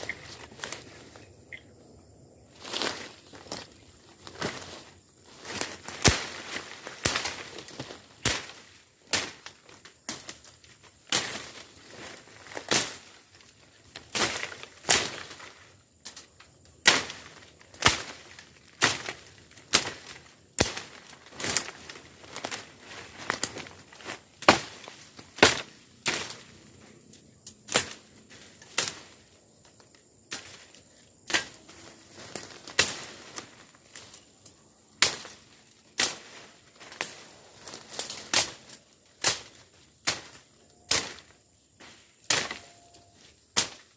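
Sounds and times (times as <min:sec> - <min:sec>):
sharp cracks in dry scrub: 0:00.0 - 0:01.3, 0:02.6 - 0:43.9.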